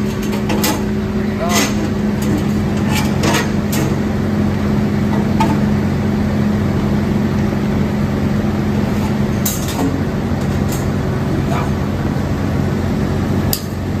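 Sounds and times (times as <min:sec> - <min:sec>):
hydraulic pump electric hum: 0:00.0 - 0:14.0.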